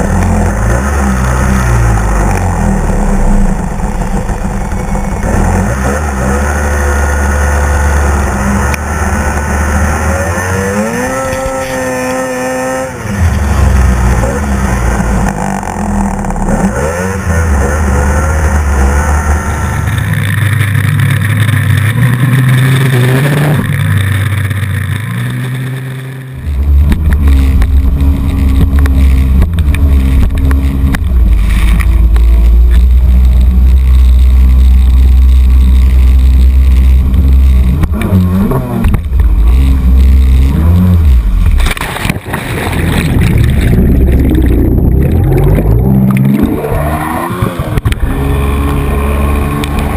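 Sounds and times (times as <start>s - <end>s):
jet ski engine: 0.0s - 49.9s
snowmobile engine running hard: 0.0s - 49.9s.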